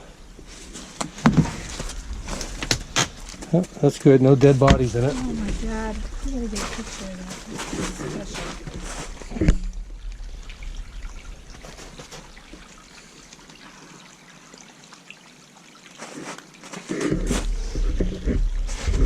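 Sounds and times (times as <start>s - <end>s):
stream trickling: 0.0s - 19.0s.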